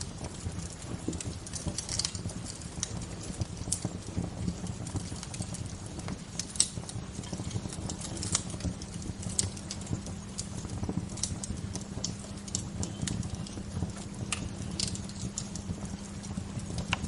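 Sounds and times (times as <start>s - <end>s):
low rush of fire: 0.0s - 17.0s
wood fire crackling and popping: 0.0s - 17.0s.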